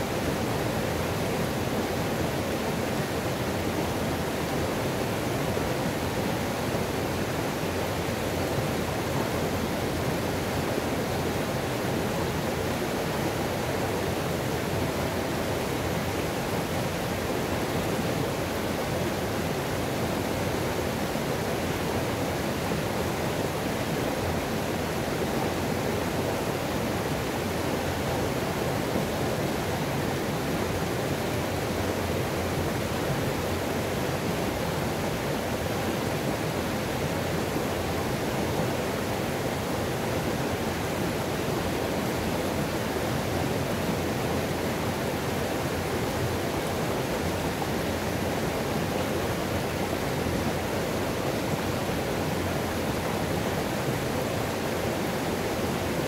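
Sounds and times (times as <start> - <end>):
river water cascading over rocks: 0.0 - 56.0.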